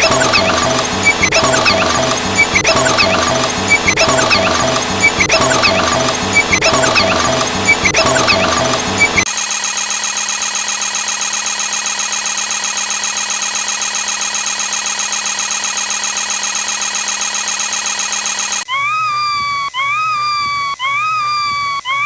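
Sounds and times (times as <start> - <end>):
pulsing electronic alarm buzz: 0.0 - 9.3, 12.0 - 22.0.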